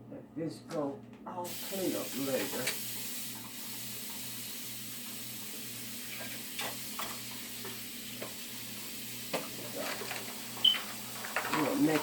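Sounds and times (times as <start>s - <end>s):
steady kitchen hiss: 1.3s - 12.0s.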